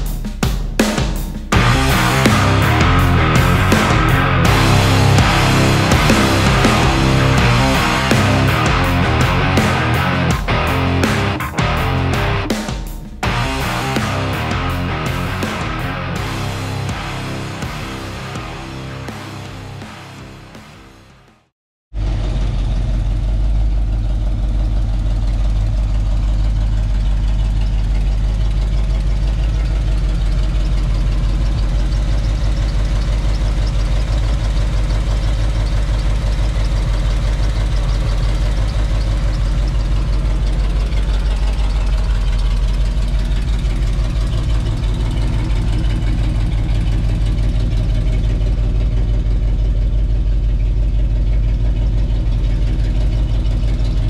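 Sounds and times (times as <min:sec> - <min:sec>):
engine idling: 0:00.8 - 0:54.0.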